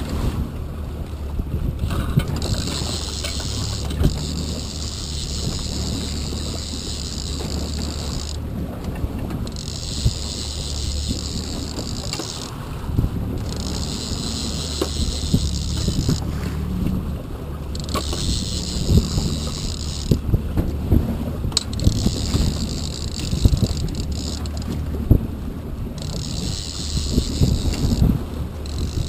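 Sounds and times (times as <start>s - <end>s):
boat engine running: 0.0s - 29.0s
water splashing: 0.0s - 29.0s
wind buffeting microphone: 0.0s - 29.0s.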